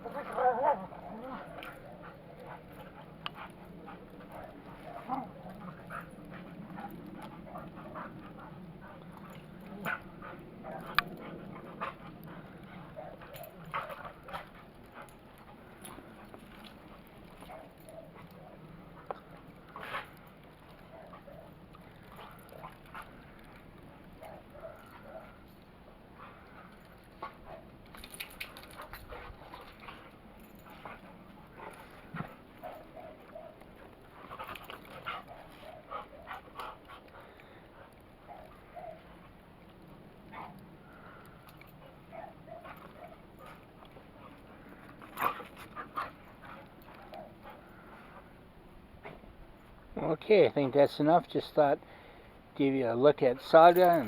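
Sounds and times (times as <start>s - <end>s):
dogs yipping and whining: 0.0s - 48.4s.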